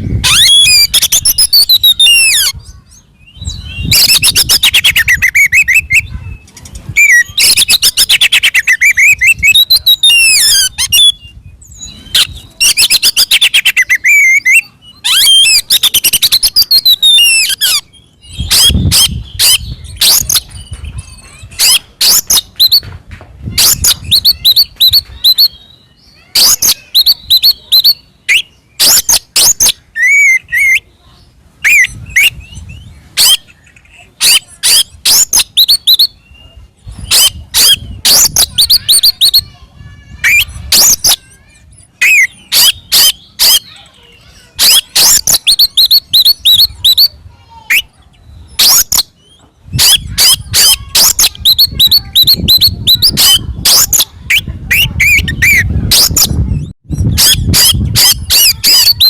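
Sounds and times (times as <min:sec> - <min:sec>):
bird singing trills and whistles: 0:00.0 - 0:59.0.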